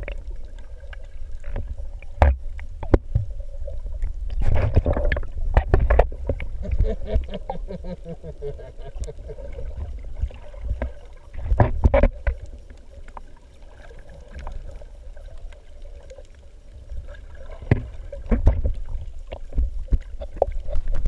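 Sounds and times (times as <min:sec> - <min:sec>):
faint steady hum: 0:00.0 - 0:21.0
muffled underwater rumble: 0:00.0 - 0:21.0.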